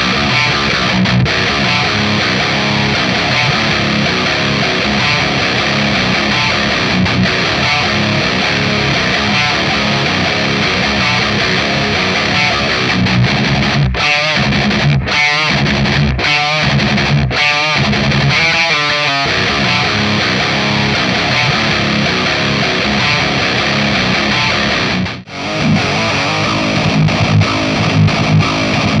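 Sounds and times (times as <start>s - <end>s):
distorted electric guitar riff: 0.0s - 29.0s.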